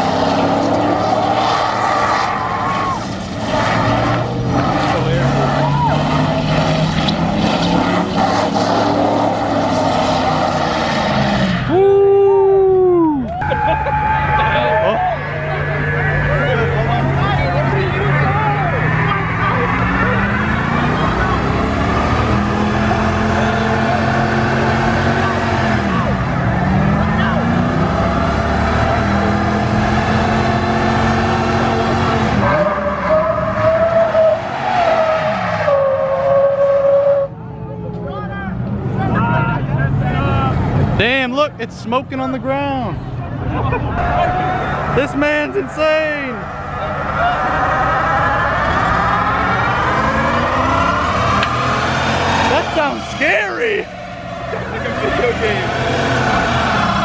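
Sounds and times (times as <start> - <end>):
car engine revving: 0.0 - 12.1, 14.0 - 37.3, 38.5 - 57.0
tires squealing: 0.0 - 42.9, 43.9 - 57.0.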